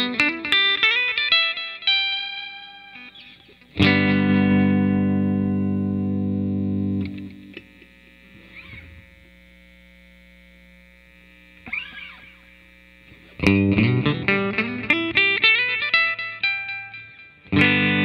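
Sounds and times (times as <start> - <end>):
electric guitar single notes: 0.0 - 9.8, 10.9 - 18.0
electric guitar chord strummed: 0.0 - 10.0, 10.6 - 18.0
amp hum: 0.0 - 18.0.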